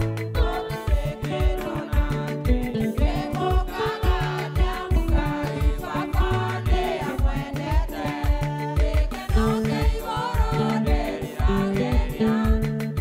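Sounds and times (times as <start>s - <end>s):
backing music with drums and bass: 0.0s - 13.0s
gospel choir singing: 0.0s - 13.0s.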